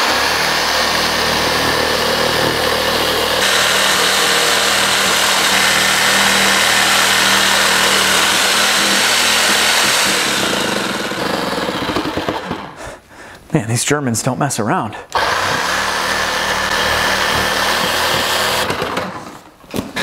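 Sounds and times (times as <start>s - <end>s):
reciprocating saw cutting metal: 0.0s - 12.8s, 15.2s - 19.3s.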